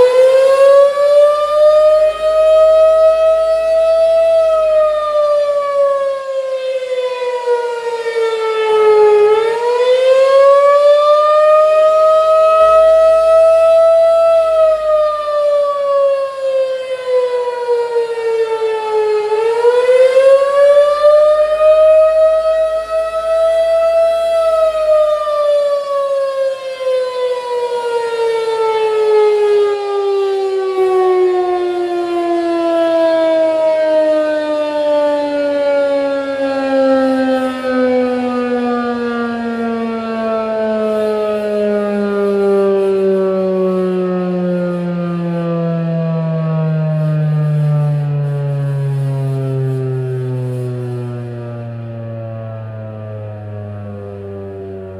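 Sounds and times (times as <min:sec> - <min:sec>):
outdoor warning siren: 0:00.0 - 0:54.9.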